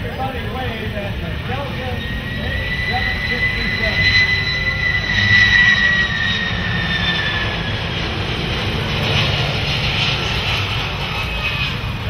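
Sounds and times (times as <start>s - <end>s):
jet engines whining: 0.0s - 12.0s
steady jet rumble: 0.0s - 12.0s.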